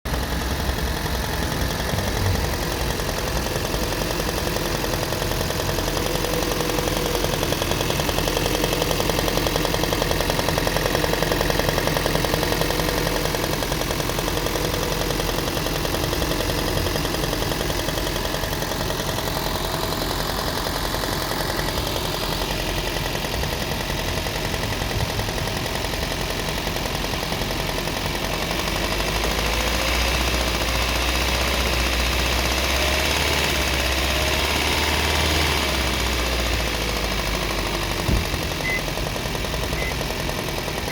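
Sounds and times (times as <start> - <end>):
car engine knocking: 0.0 - 40.9.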